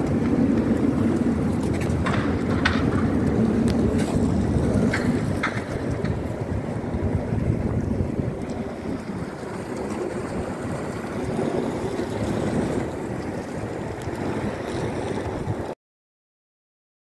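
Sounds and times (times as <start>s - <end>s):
wind buffeting microphone: 0.0s - 15.8s.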